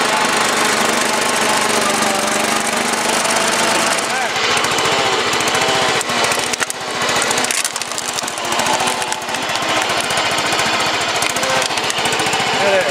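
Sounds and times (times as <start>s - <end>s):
small gasoline engine running: 0.0s - 12.9s.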